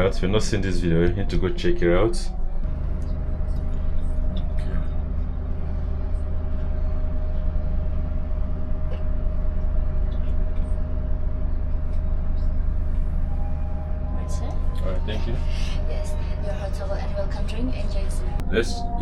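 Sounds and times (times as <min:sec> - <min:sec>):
constant tone: 0:00.0 - 0:19.0
low rumble inside train carriage: 0:00.0 - 0:19.0.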